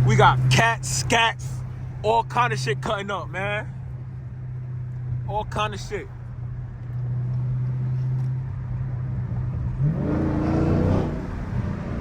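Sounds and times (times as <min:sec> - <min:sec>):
car engine running and revving: 0:00.0 - 0:12.0.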